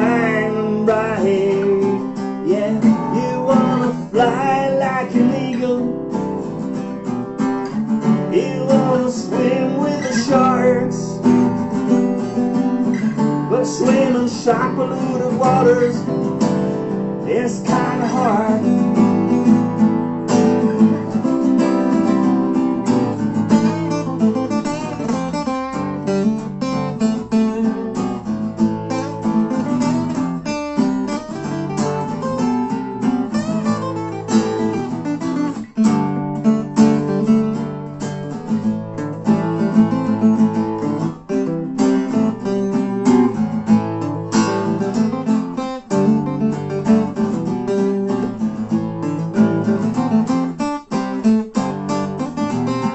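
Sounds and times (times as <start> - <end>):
acoustic guitars strumming: 0.0 - 52.9.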